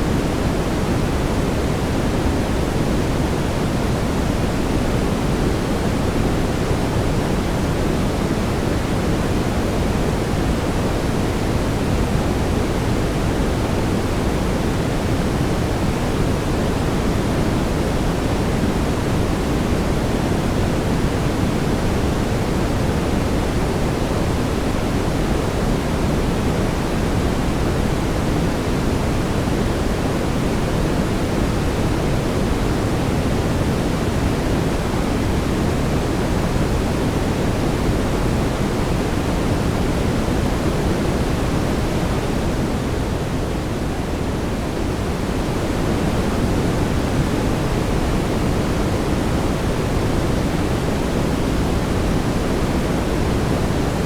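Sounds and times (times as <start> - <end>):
brown noise hiss: 0.0 - 54.0.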